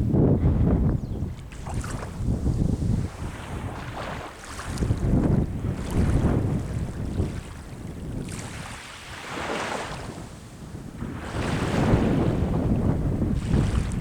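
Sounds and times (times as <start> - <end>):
wind rumble on microphone: 0.0 - 14.0
sea waves breaking on shore: 1.4 - 14.0.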